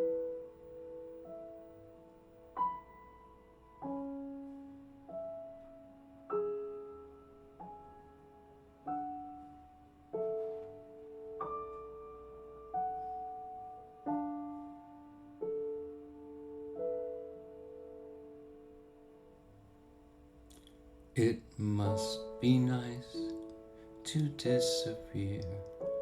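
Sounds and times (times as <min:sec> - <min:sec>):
slow solo piano over loudspeakers: 0:00.0 - 0:26.0.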